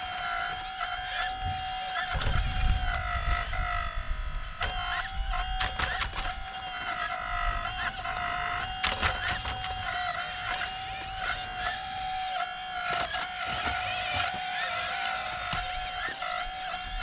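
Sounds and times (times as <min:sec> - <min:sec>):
electric pump motor whining: 0:00.0 - 0:17.0.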